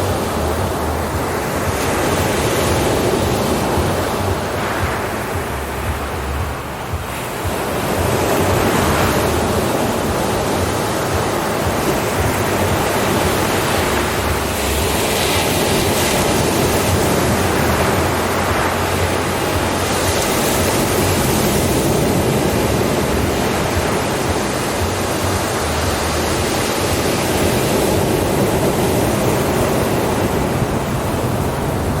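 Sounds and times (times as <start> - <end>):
ocean waves breaking: 0.0 - 32.0.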